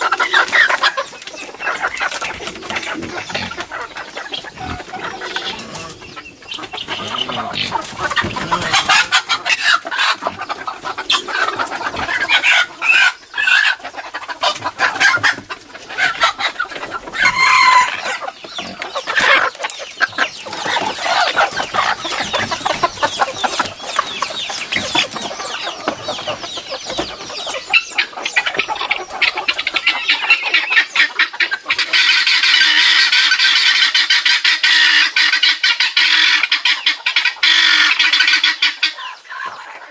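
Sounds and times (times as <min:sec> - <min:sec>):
rapid chattering of birds: 0:00.0 - 0:39.9
roosters clucking and crowing: 0:00.0 - 0:39.9.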